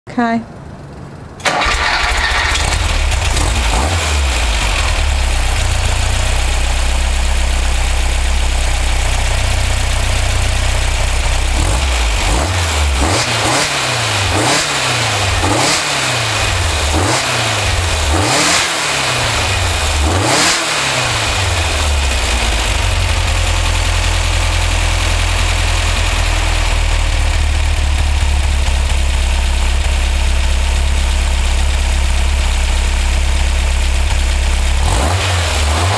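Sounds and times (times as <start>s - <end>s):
car engine idling and revving: 0.5s - 35.9s.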